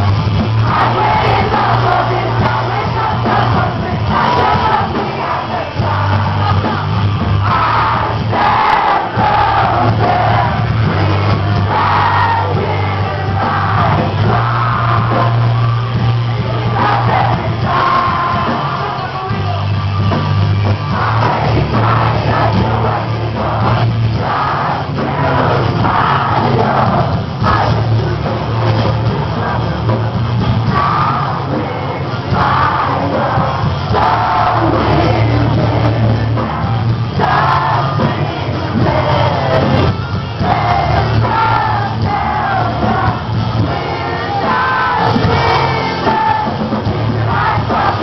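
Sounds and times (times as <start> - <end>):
crowd noise: 0.0 - 48.0
metalcore band playing live: 0.0 - 48.0.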